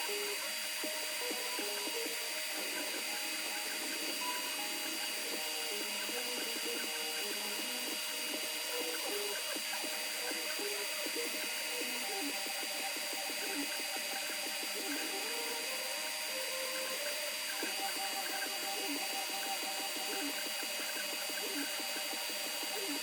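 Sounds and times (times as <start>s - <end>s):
steady high-pitched whine: 0.0s - 23.0s
stepper motors whining in tones: 0.0s - 23.0s.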